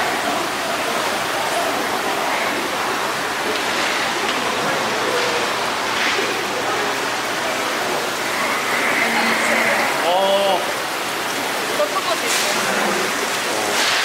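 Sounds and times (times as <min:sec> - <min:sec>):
faint voices: 0:00.0 - 0:13.8
running water rushing: 0:00.0 - 0:14.0.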